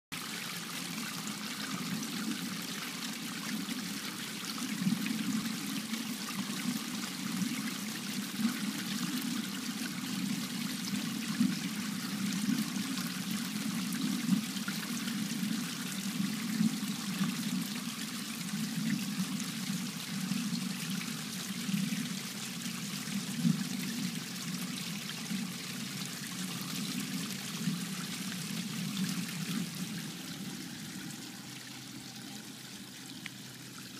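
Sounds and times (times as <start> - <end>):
fountain splashing into pond: 0.1 - 33.9.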